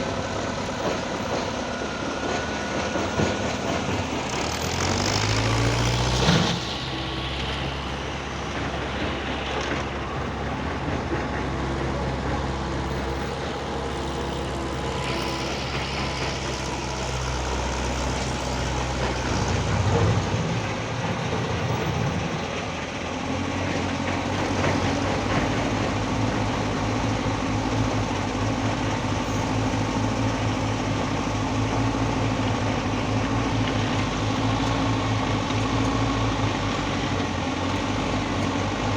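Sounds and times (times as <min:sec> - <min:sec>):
excavator diesel engine working: 0:00.0 - 0:38.9.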